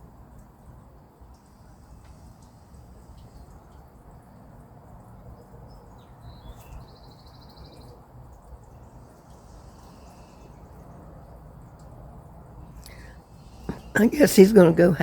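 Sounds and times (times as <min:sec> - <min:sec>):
small birds chirping: 0:01.3 - 0:14.7.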